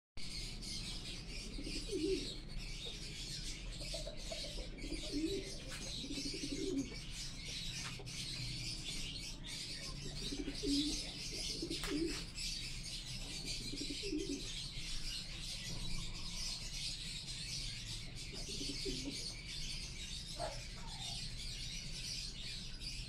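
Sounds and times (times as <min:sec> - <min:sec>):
pigeons cooing: 0:00.3 - 0:23.0.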